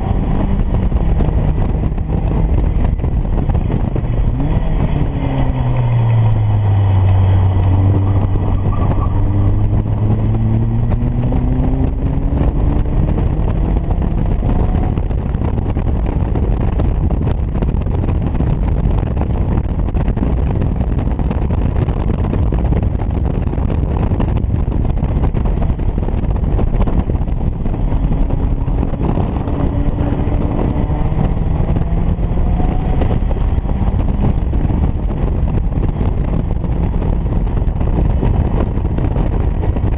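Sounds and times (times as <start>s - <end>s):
race car engine pulling hard: 0.0s - 39.9s
wind and road rush: 0.0s - 39.9s.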